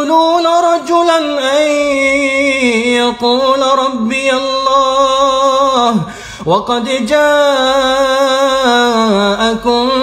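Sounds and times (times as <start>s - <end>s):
man chanting melodically: 0.0s - 10.0s.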